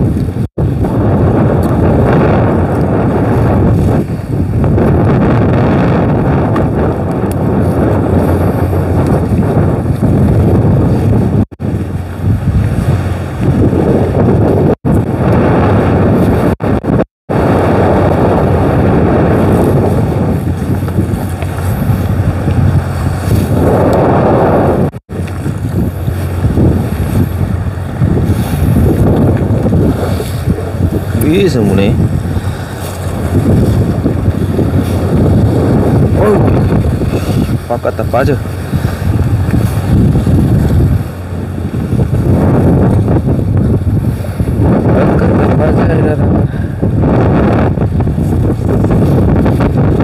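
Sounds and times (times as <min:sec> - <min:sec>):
waves and boat noise: 0:00.0 - 0:50.0
wind buffeting microphone: 0:00.0 - 0:50.0.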